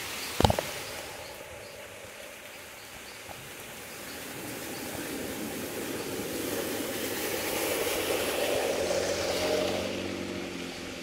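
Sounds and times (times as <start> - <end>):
engine humming: 0.0 - 11.0
steady rushing noise: 0.0 - 11.0.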